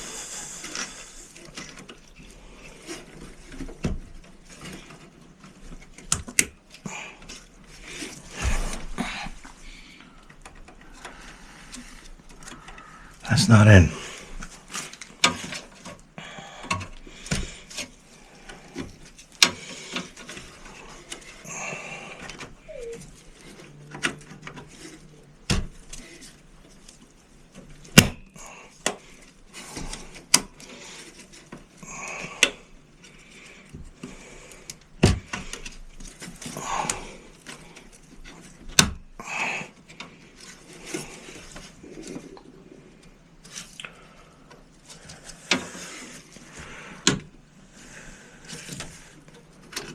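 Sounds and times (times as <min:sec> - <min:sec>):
rustling handling noise: 0:00.0 - 0:31.8, 0:32.4 - 0:49.9.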